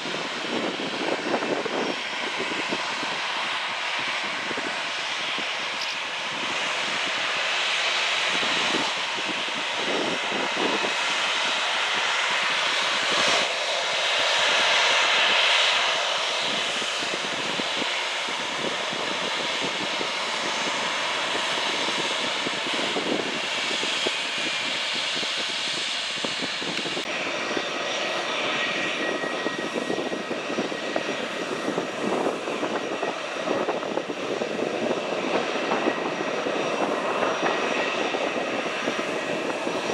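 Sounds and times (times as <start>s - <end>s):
airplane engines running: 0.0s - 39.9s.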